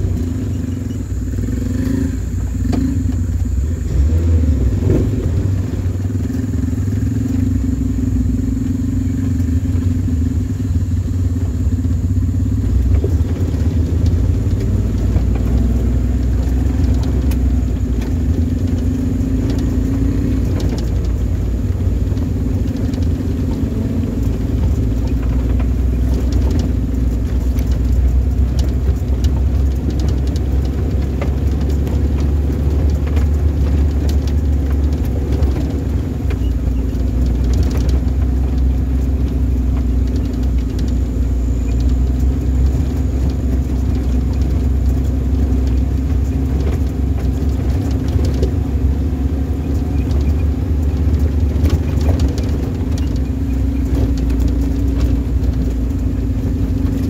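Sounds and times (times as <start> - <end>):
off-road vehicle engine rumbling: 0.0 - 57.0
vehicle knocks and rattles: 0.0 - 57.0.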